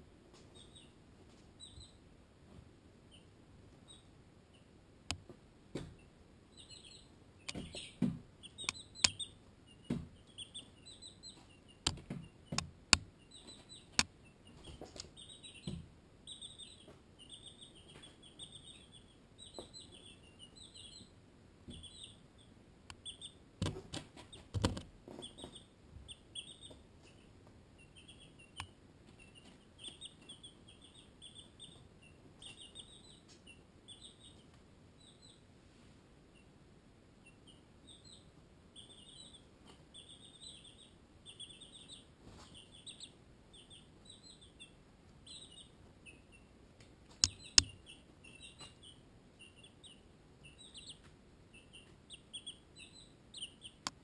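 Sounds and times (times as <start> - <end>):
chicks peeping: 0.3 - 54.0.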